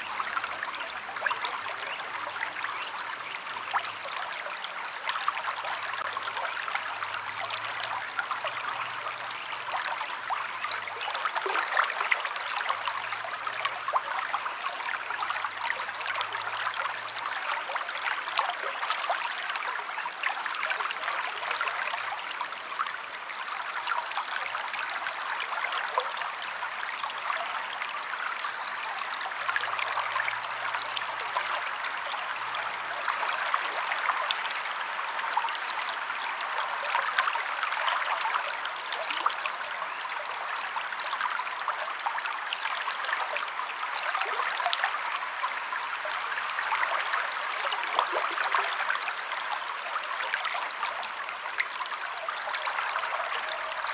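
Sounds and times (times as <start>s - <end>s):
stream of water flowing: 0.0s - 53.9s.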